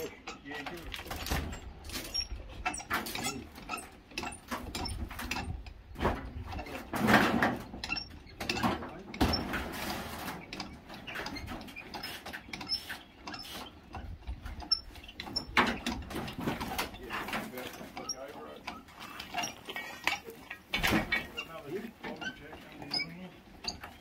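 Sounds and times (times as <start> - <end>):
jack clicking and knocking: 0.0 - 24.0.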